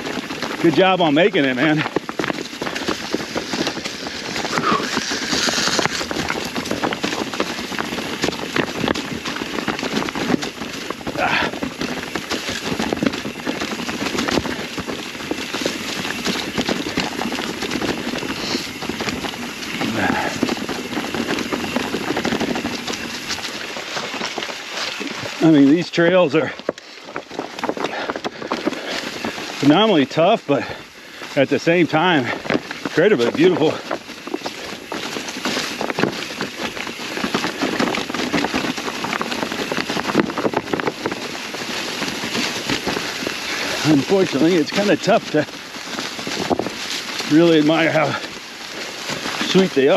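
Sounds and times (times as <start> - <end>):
bike rattling over rocks: 0.0 - 49.9
tyres crunching through leaves: 0.0 - 49.9.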